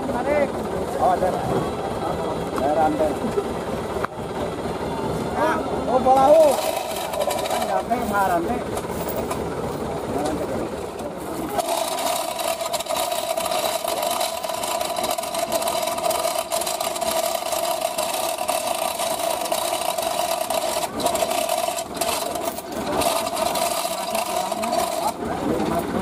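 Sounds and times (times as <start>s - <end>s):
truck engine running at raised revs: 0.0s - 26.0s.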